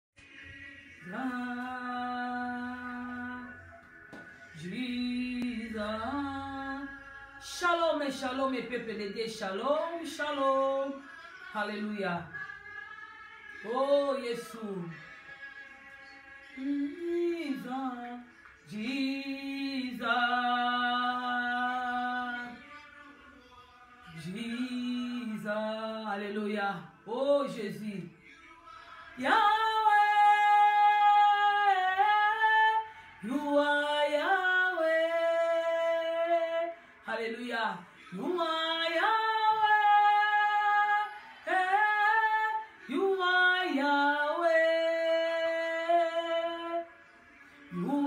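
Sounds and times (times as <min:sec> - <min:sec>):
woman singing unaccompanied: 0:00.3 - 0:23.0, 0:24.0 - 0:28.2, 0:29.0 - 0:47.0, 0:47.6 - 0:48.0.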